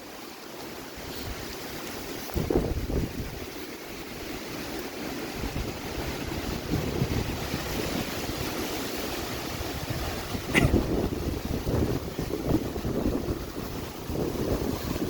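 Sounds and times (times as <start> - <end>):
wind and water rushing: 0.0 - 15.0
wind buffeting microphone: 1.0 - 15.0.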